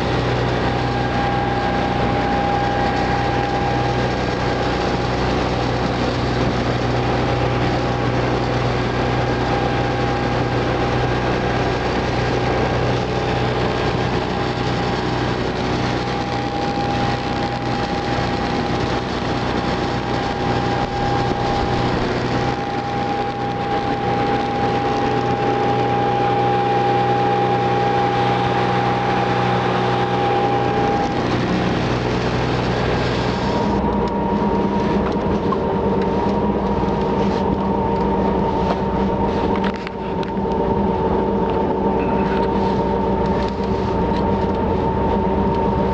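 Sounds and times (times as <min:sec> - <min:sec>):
engine humming: 0:00.0 - 0:45.9.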